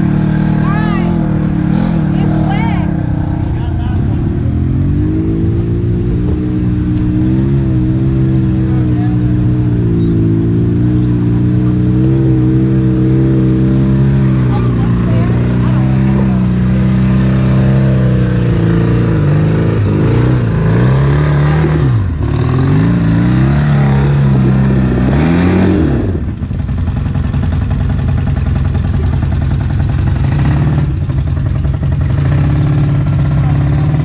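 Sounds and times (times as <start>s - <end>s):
utility vehicle engine revving: 0.0s - 34.0s.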